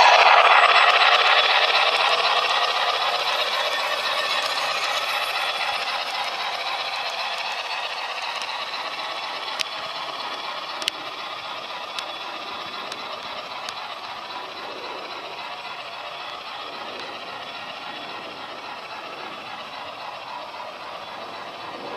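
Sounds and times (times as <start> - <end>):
model train rolling rattle: 0.0 - 21.9
sharp clicks on track: 0.0 - 21.9.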